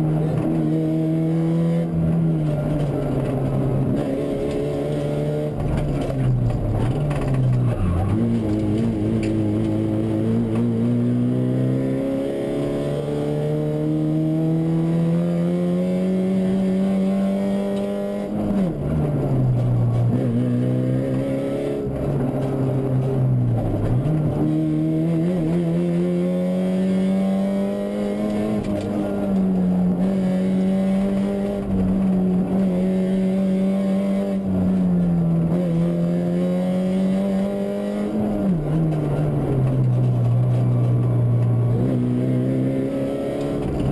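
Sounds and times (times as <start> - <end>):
rally car engine from inside cabin: 0.0 - 43.9.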